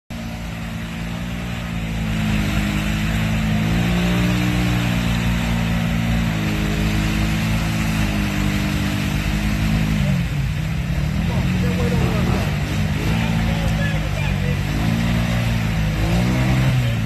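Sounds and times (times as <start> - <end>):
atv engine revving: 0.1 - 17.0.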